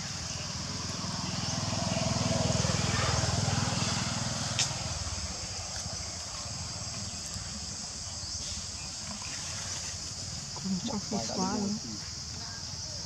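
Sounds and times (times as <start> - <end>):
insect chorus droning: 0.0 - 13.0.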